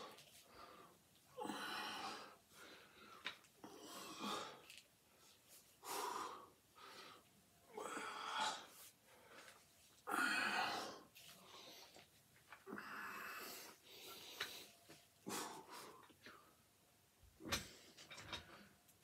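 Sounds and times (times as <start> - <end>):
man breathing heavily: 0.0 - 16.6.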